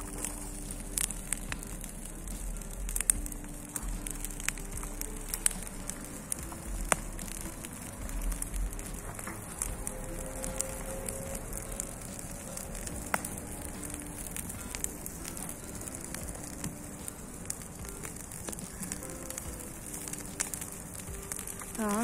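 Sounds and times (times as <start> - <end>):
bonfire crackling and popping: 0.0 - 22.0.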